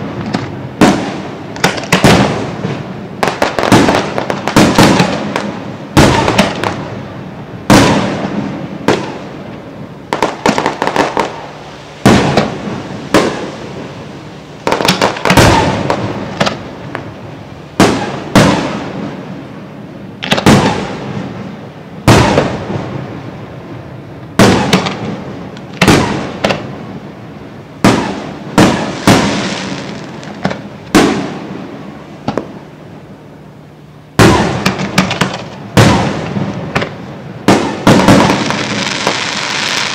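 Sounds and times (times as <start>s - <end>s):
fireworks booming: 0.0s - 33.3s, 34.0s - 39.9s.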